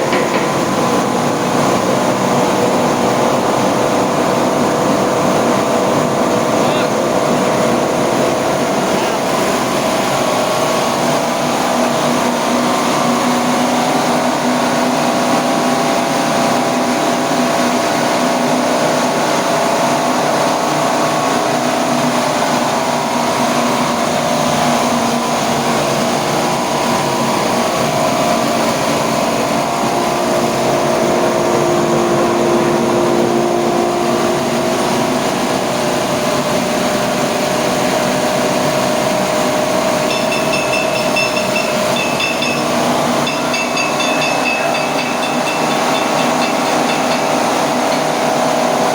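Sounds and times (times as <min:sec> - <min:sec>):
electric machine humming and whining: 0:00.0 - 0:48.9.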